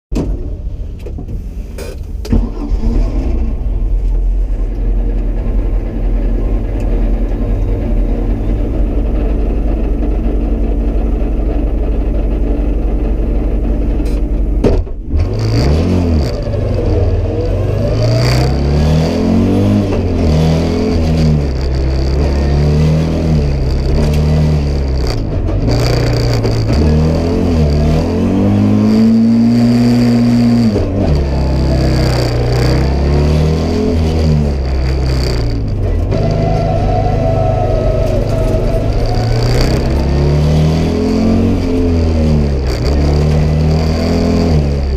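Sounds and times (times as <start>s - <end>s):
rally car engine revving: 1.7s - 44.9s.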